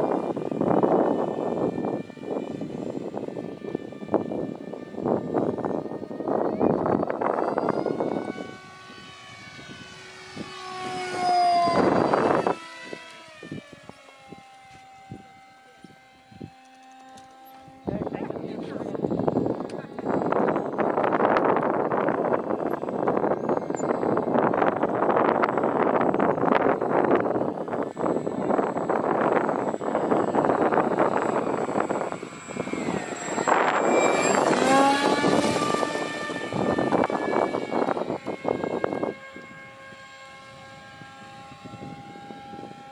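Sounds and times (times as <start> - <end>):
model plane electric motor whining: 0.0 - 42.9
wind noise on microphone: 0.0 - 42.9.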